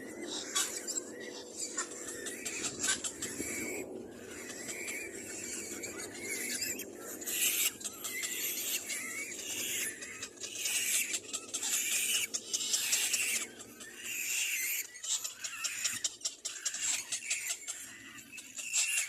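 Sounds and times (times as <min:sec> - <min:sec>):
cormorant chicks calling: 0:00.0 - 0:19.0.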